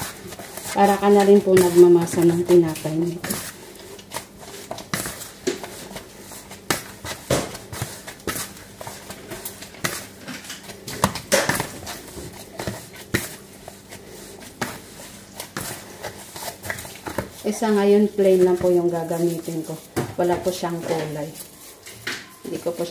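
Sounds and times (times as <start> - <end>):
soft thuds of kneading dough: 0.0 - 22.9.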